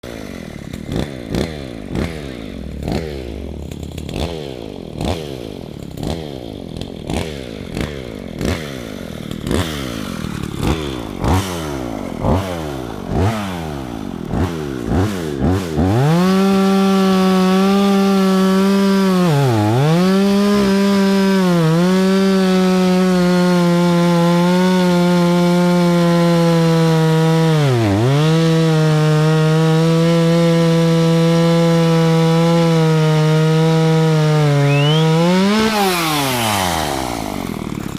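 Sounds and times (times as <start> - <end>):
chainsaw revving: 0.0 - 37.9.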